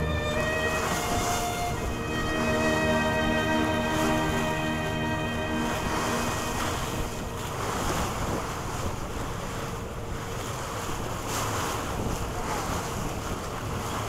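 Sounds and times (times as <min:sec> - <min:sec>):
choppy water against hull: 0:00.0 - 0:14.0
wind buffeting microphone: 0:00.0 - 0:14.0.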